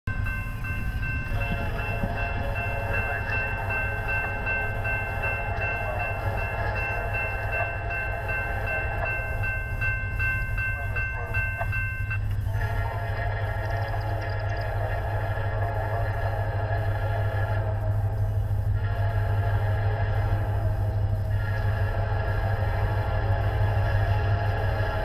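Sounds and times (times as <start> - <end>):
long steady high tones: 0.1 - 25.0
low locomotive rumble: 0.1 - 25.0.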